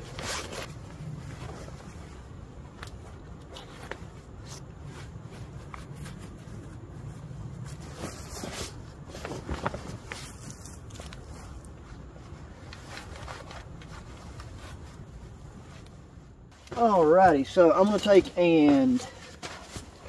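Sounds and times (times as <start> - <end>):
low wind rumble on microphone: 0.0 - 16.6
heavy wool fabric rustling: 0.0 - 20.0.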